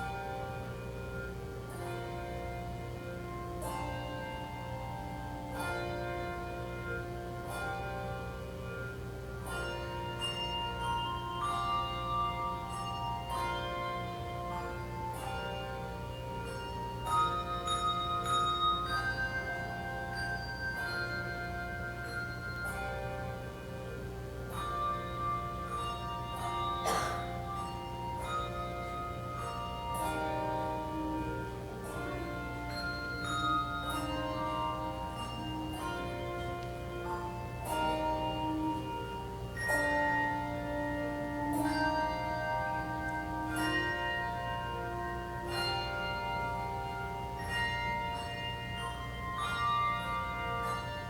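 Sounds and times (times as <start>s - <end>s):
handbell choir playing: 0.0s - 51.0s.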